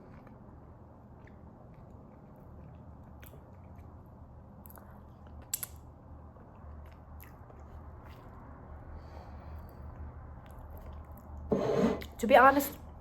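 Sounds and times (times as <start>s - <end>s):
chewing and wet mouth sounds: 0.0s - 11.5s.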